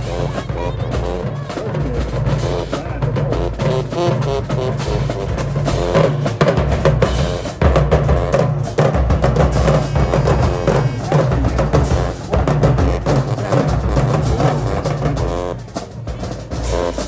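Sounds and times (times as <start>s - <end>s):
bass and snare drums pounding: 0.0s - 17.0s
marching band playing: 0.0s - 17.0s.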